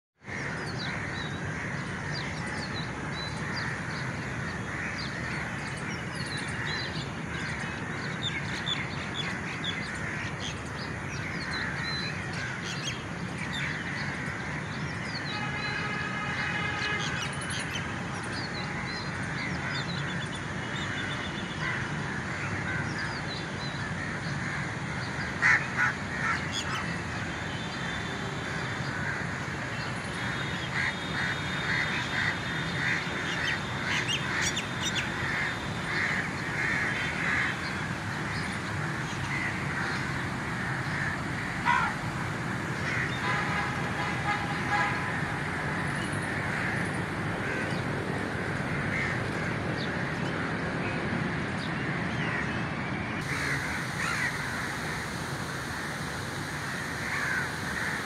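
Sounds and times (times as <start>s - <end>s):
loud sharp bird calls: 0.2s - 50.4s, 53.2s - 58.0s
birds chirping and calling: 0.3s - 44.9s, 53.2s - 58.0s
steady background hum: 0.3s - 58.0s.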